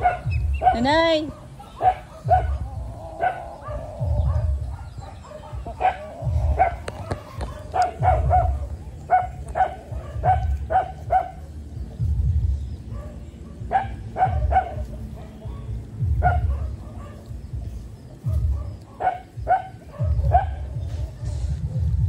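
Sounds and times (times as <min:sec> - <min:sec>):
low rumble: 0:02.1 - 0:22.0.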